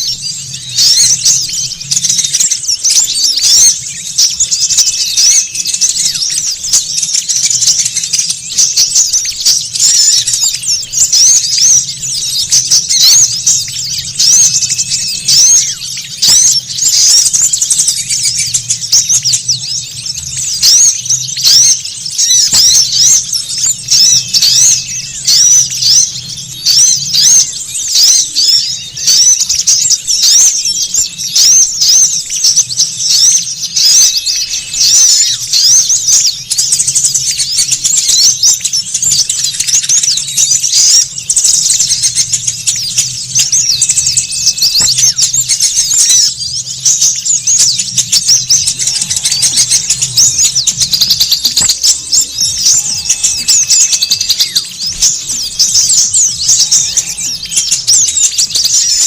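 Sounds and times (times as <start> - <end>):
small songbirds twittering: 0.0 - 59.0.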